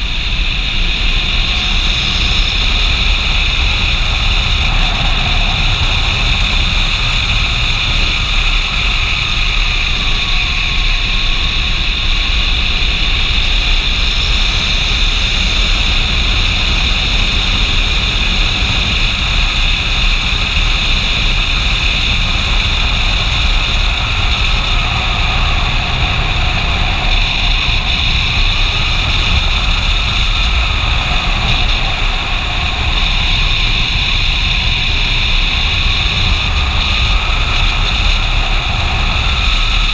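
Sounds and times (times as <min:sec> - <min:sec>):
motorcycle engine: 0:00.0 - 0:39.9
wind rushing over microphone: 0:00.0 - 0:39.9.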